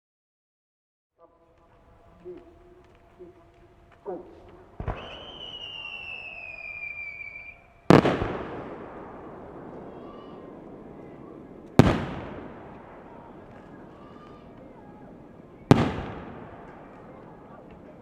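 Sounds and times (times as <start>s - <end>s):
firework shells bursting with echo: 1.6s - 18.0s.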